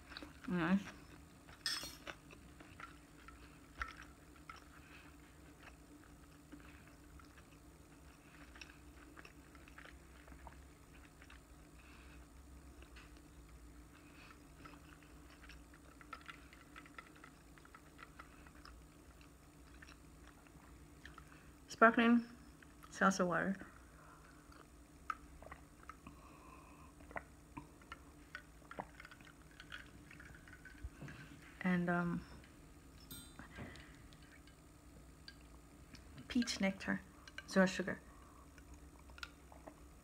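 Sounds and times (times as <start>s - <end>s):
person chewing food: 0.0s - 21.7s, 23.7s - 31.6s, 37.1s - 40.0s.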